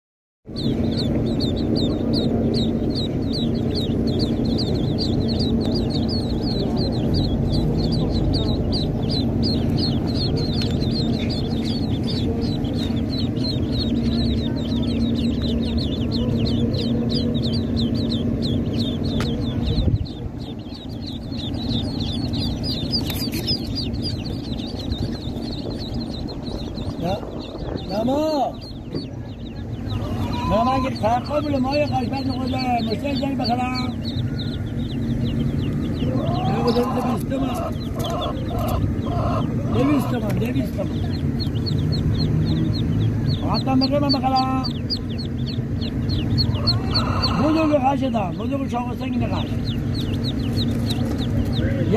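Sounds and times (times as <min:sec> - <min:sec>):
chicks and ducklings peeping: 0:00.5 - 0:51.9
low rumble: 0:00.5 - 0:51.9
steady low hum: 0:00.5 - 0:51.9.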